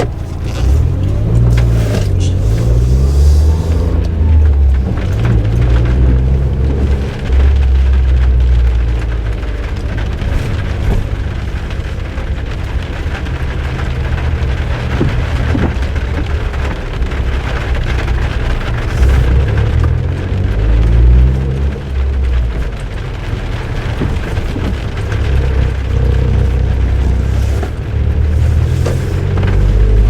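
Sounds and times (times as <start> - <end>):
car engine droning: 0.0 - 30.0
tyre and road noise: 0.0 - 30.0.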